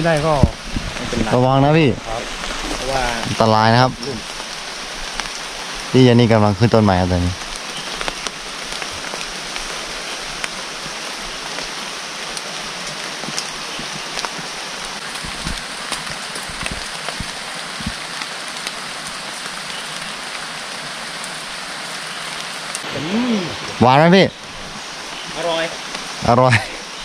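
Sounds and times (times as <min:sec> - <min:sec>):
rain hissing: 0:00.0 - 0:27.0
rain pattering clicks: 0:02.3 - 0:22.8, 0:24.4 - 0:26.8.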